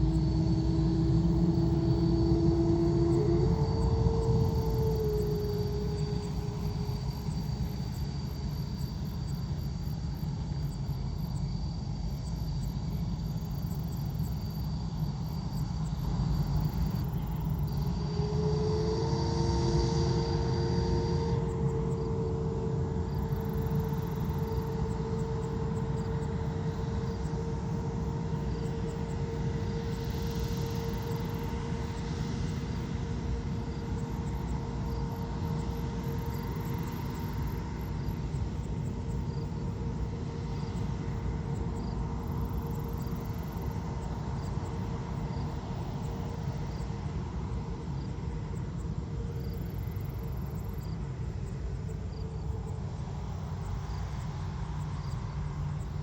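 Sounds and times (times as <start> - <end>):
aircraft engine rumbling: 0.0 - 11.4, 15.6 - 56.0.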